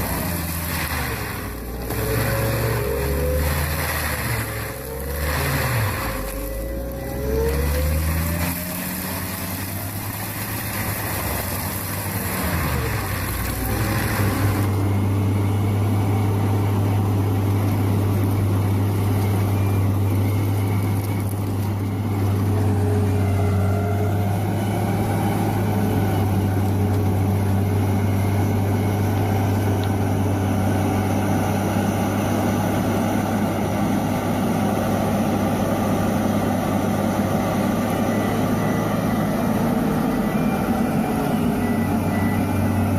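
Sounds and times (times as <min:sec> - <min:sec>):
heavy machine engine drone: 0:00.0 - 0:42.9.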